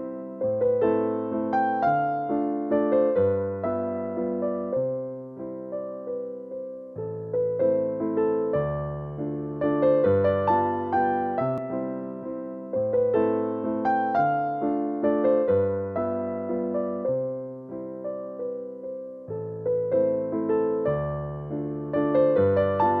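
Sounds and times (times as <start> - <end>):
electric piano chords: 0.0 - 23.0.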